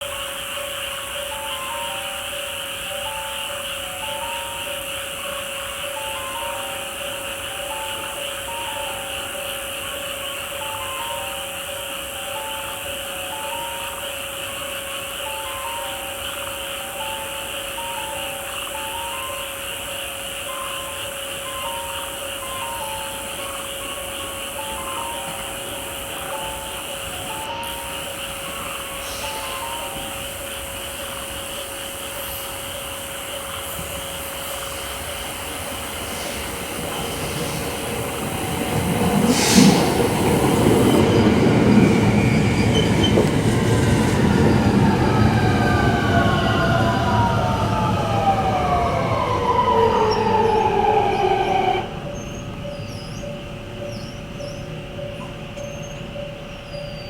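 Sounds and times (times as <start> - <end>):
train wheel and running noise: 0.0 - 57.0.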